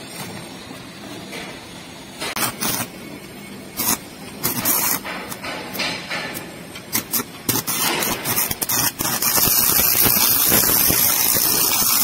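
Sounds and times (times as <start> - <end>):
arc welding crackling hiss: 0.0 - 12.0.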